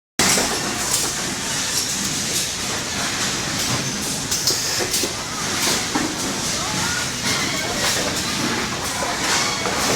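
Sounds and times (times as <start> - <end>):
factory mechanical din: 0.2 - 9.9.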